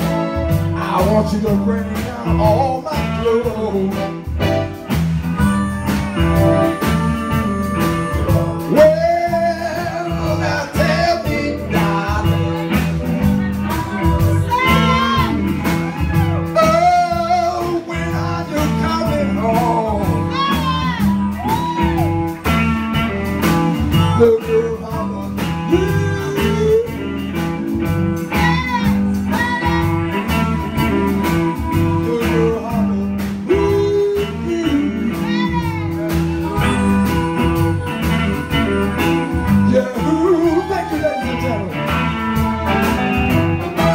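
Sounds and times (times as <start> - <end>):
electric blues band playing: 0.0 - 43.9
sliding bending guitar lead: 0.0 - 43.9.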